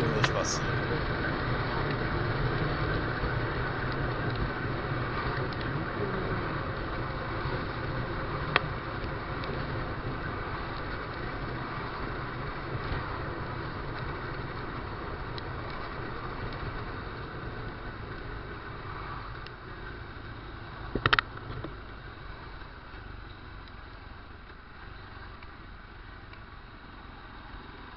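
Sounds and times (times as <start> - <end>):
motorcycle engine running: 0.0 - 23.3
tyres on wet road: 0.0 - 27.9.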